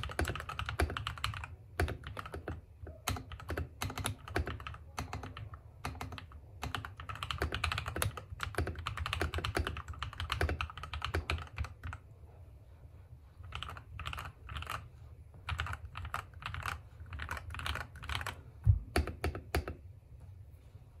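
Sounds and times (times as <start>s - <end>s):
mechanical keyboard typing: 0.0s - 12.0s, 13.5s - 14.8s, 15.4s - 19.8s.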